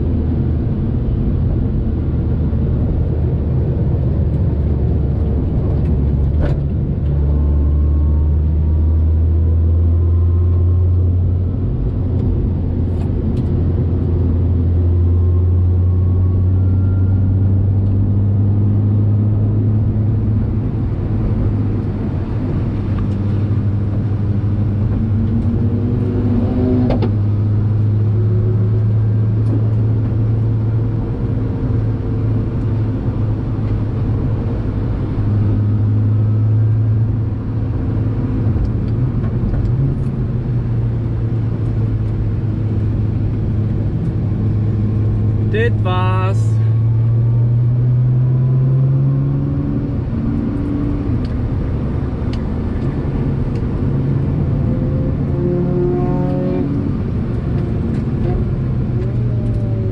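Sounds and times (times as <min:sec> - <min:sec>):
car engine drone inside cabin: 0:00.0 - 0:59.9.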